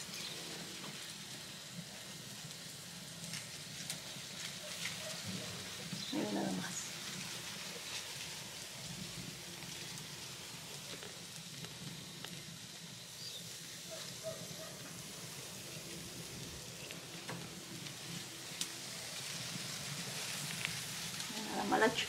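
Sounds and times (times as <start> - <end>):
meat sizzling on a grill: 0.0 - 22.0
wood coals crackling: 0.0 - 22.0.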